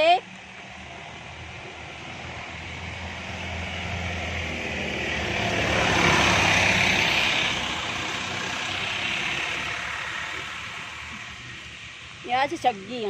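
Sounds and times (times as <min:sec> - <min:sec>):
vehicle passing by: 0:00.2 - 0:12.7.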